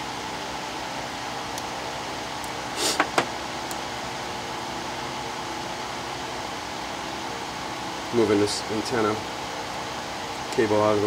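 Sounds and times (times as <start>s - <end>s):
steady fan-like hiss: 0.0s - 11.0s.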